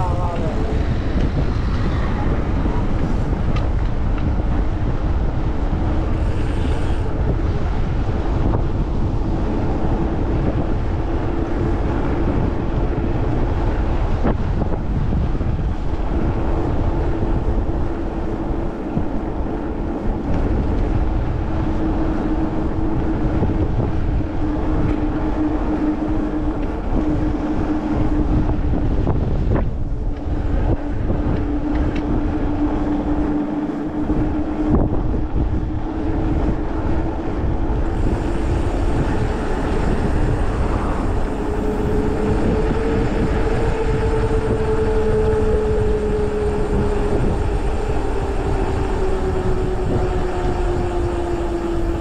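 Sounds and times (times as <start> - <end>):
steady hum: 0.0 - 52.0
tyres rumbling on asphalt: 0.0 - 52.0
wind rushing over microphone: 0.0 - 52.0.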